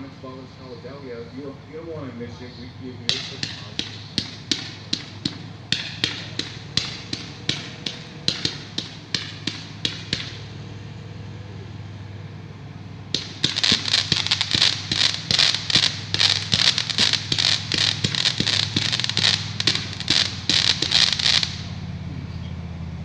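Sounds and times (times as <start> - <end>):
fireworks firing sharp reports: 0.0 - 22.1
rapid crackling pops: 0.7 - 22.0.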